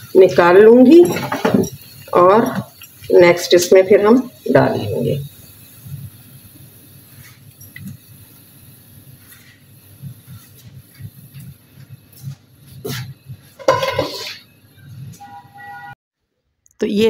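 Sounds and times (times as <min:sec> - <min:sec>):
oil sizzling and crackling: 0:00.0 - 0:15.2.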